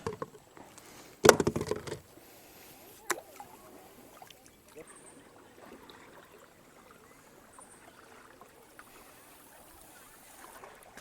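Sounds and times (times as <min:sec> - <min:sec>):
creek water gurgling: 0:00.0 - 0:11.0
small ticks and splashes: 0:00.0 - 0:11.0.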